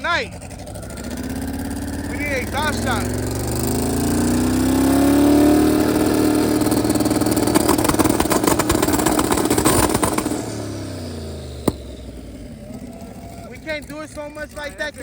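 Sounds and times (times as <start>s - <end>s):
exhaust popping and crackling: 0.0s - 15.0s
car engine revving: 0.3s - 15.0s.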